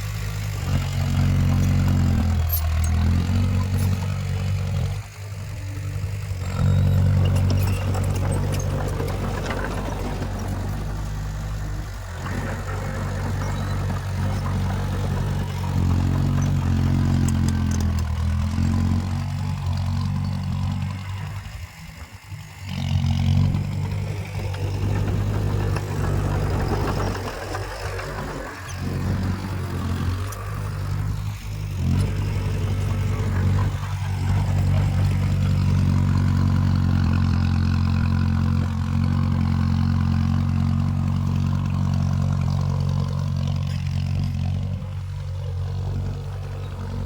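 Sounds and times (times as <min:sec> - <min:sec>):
heavy diesel engine under load: 0:00.0 - 0:47.0.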